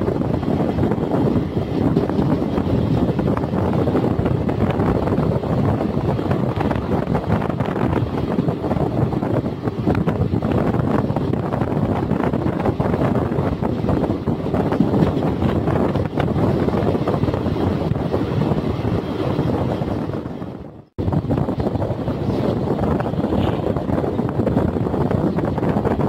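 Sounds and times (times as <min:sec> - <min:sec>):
train wheels rumbling on rails: 0:00.0 - 0:26.0
wind buffeting microphone: 0:00.0 - 0:26.0.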